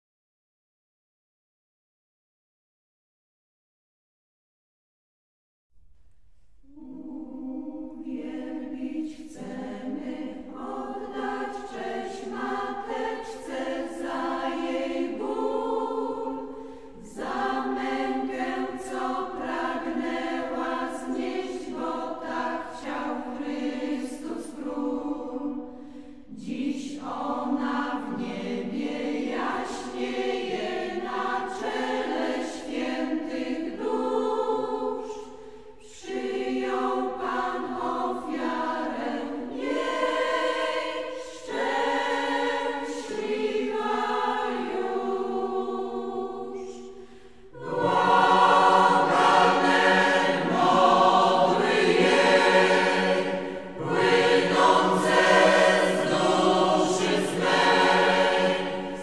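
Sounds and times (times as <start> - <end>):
choir singing a hymn: 6.6 - 59.0.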